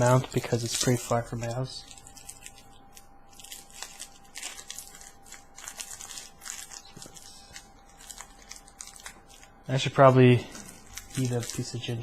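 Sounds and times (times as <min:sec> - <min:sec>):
faint steady hum: 0:00.0 - 0:12.0
food crunching and crinkling: 0:00.0 - 0:12.0.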